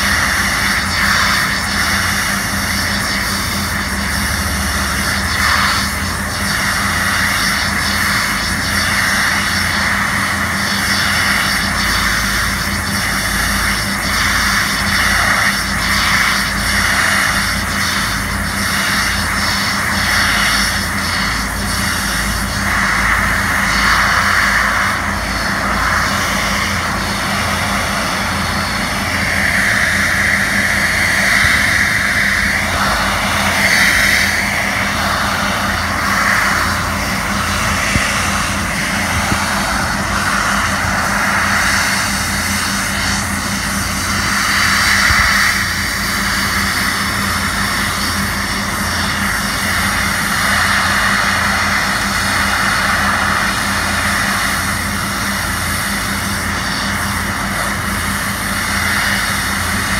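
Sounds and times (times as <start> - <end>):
steady low hum: 0.0 - 59.9
water jet hissing on concrete: 0.0 - 59.9.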